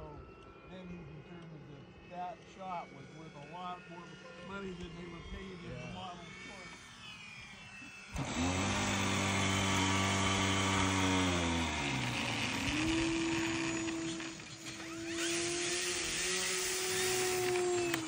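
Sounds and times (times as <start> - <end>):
model airplane motor and propeller: 0.0 - 18.0.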